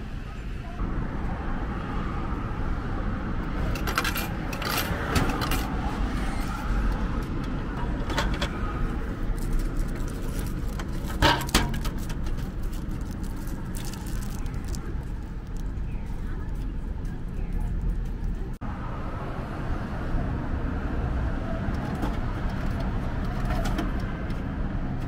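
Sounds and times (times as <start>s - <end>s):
street traffic hum: 0.0s - 25.0s.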